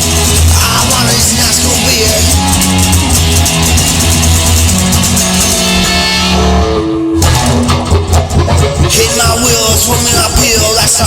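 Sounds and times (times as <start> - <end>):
drums: 0.0 - 11.0
rock guitar: 0.0 - 11.0.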